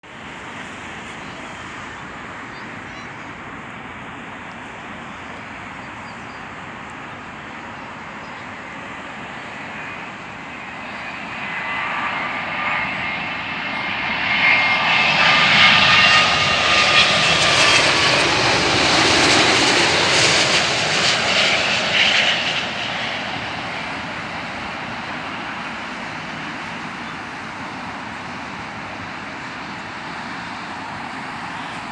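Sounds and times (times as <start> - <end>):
jet engines rushing and whining: 0.1 - 31.9.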